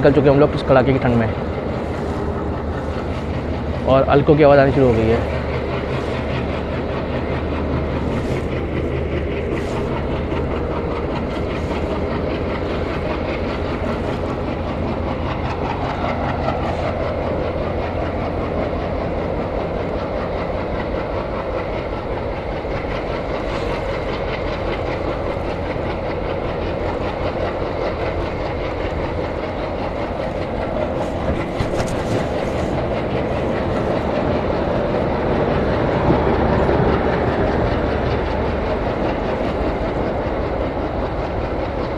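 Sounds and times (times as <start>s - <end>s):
clickety-clack over rail joints: 0.0s - 41.9s
train wheels rumbling on track: 0.0s - 41.9s.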